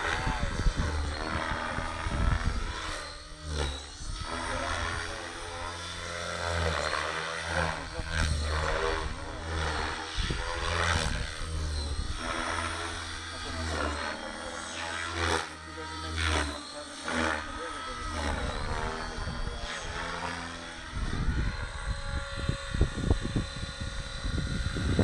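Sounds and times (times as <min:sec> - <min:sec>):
rc helicopter rotor and motor whine: 0:00.0 - 0:25.0.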